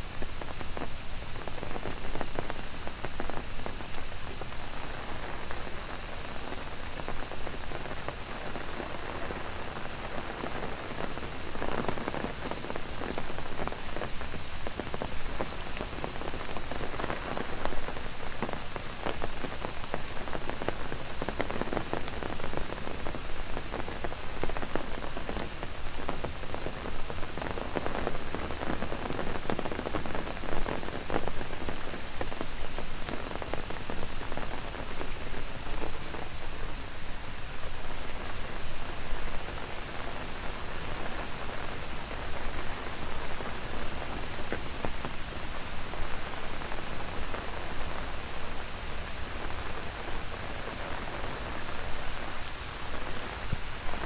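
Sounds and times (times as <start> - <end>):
cicadas droning: 0.0 - 54.0
rain pattering on an umbrella: 0.0 - 54.0.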